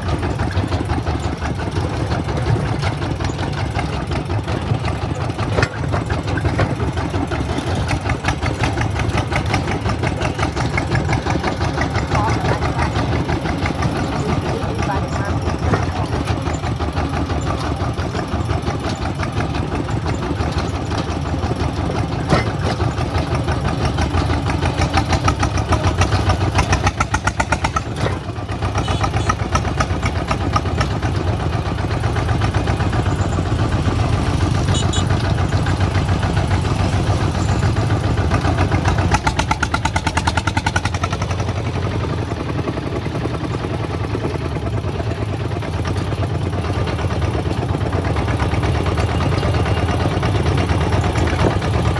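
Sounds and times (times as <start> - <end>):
diesel engine running steadily: 0.0 - 51.9.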